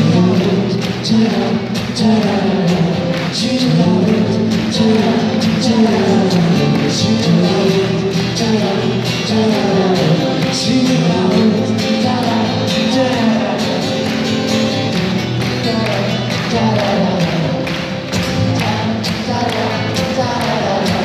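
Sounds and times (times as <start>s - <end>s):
acoustic guitars strumming: 0.0s - 21.0s
person singing: 0.0s - 21.0s.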